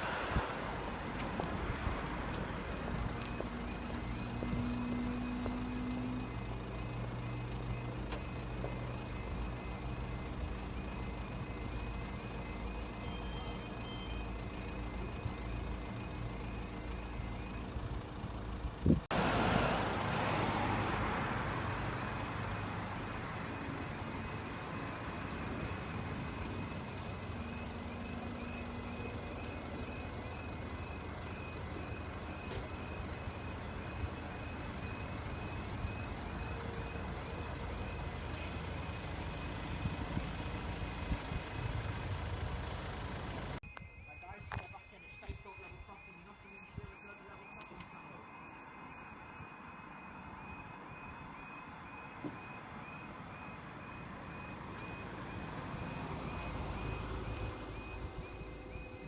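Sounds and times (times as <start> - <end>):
warbling crossing alarm: 0.0 - 19.0, 19.7 - 42.4, 43.3 - 59.0.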